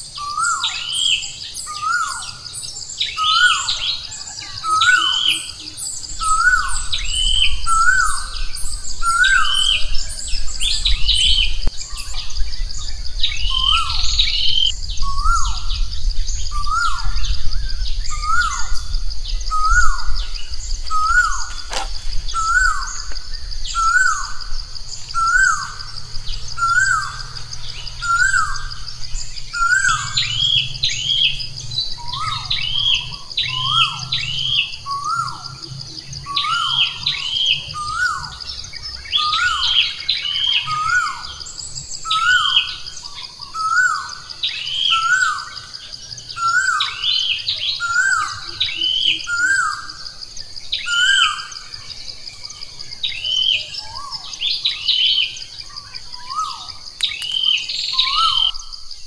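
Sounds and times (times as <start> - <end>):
higher bird chirps: 0.0 - 59.0.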